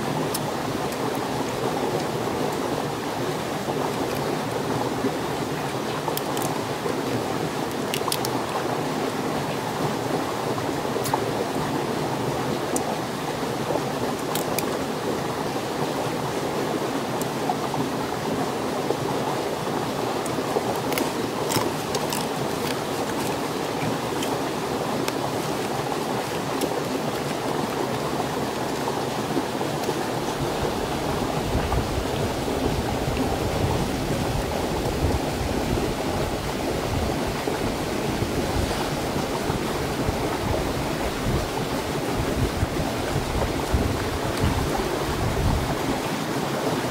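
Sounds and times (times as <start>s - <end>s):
stream water flowing: 0.0s - 46.9s.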